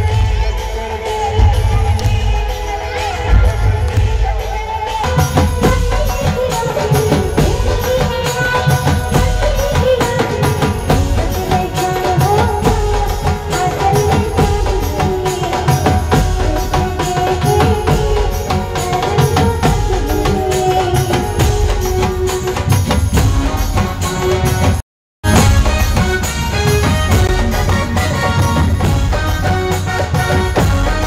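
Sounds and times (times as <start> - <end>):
dhol drum beat: 0.0 - 31.0
live band folk music: 0.0 - 31.0.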